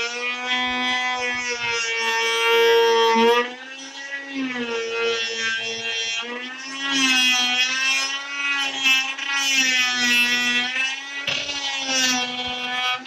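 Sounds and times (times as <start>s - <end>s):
oscillating multi-tool cutting wood: 0.0s - 13.0s.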